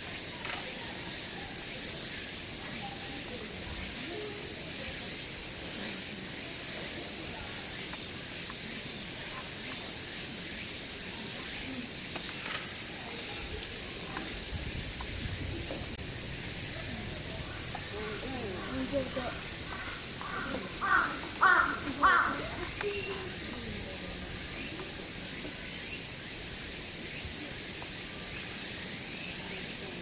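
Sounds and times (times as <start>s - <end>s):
cicadas buzzing: 0.0s - 30.0s
faint distant voices: 0.0s - 30.0s.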